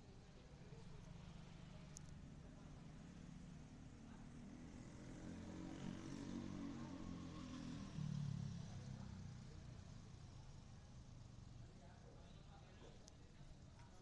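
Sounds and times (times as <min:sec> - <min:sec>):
faint vehicle engine: 0:00.0 - 0:14.0.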